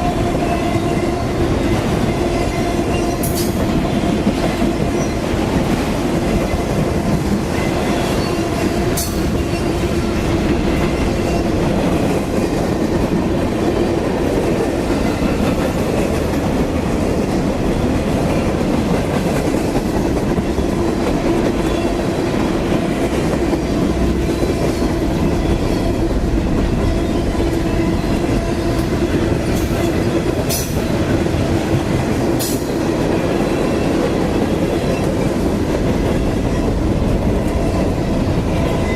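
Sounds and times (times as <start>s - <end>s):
clickety-clack of rails: 0.0s - 38.9s
train wheels rumbling on rail: 0.0s - 38.9s.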